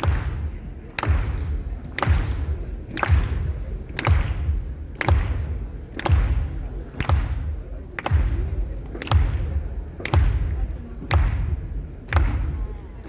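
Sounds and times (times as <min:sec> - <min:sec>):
sharp drum crack: 0:00.0 - 0:12.6.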